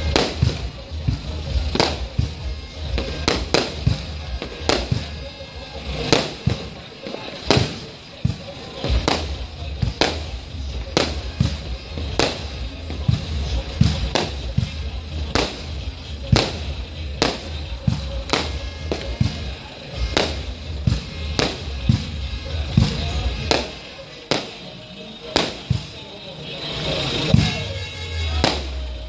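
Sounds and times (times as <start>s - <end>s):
fireworks bursting with bangs: 0.0s - 29.0s
music with deep bass: 0.0s - 29.0s.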